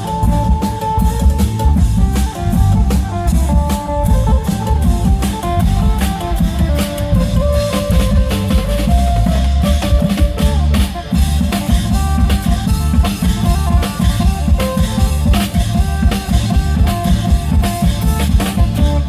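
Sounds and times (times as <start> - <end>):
driving drumming with heavy bass: 0.0 - 19.0
lute melody: 0.0 - 19.0.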